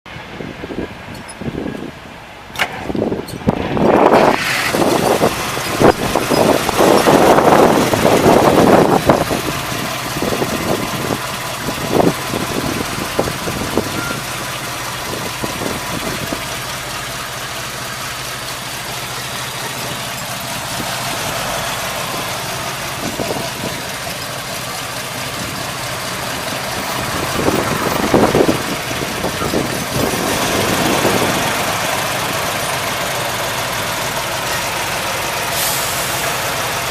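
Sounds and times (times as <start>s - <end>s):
truck engine running and idling: 0.1s - 36.9s
truck engine cranking with clicks: 2.5s - 36.9s.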